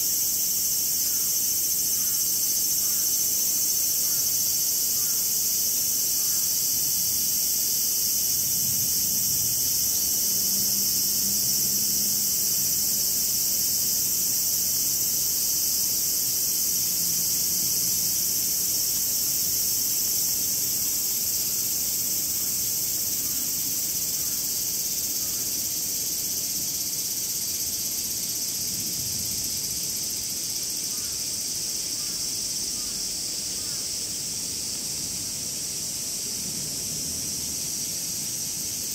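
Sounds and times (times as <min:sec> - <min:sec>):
cicadas buzzing: 0:00.0 - 0:38.9.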